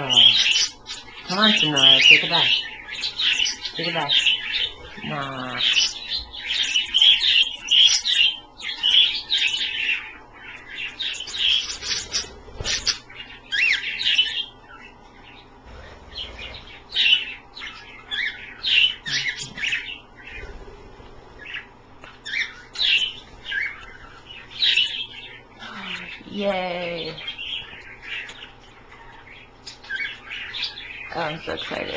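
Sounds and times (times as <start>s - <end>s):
parakeets chirping and chattering: 0.0s - 31.9s.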